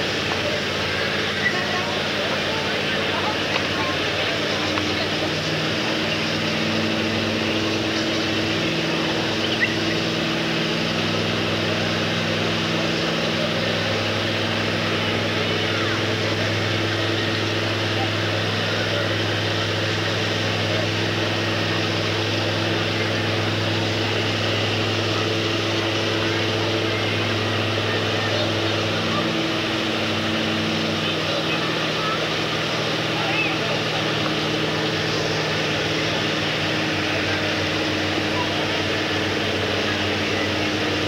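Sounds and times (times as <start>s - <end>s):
engine drone: 0.0s - 41.0s.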